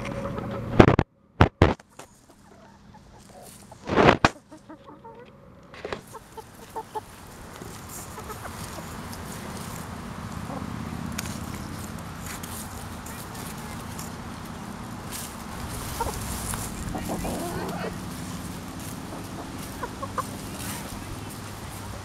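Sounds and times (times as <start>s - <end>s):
hens clucking softly: 1.9s - 22.0s
scratching in dry leaves: 3.1s - 4.9s, 5.8s - 22.0s.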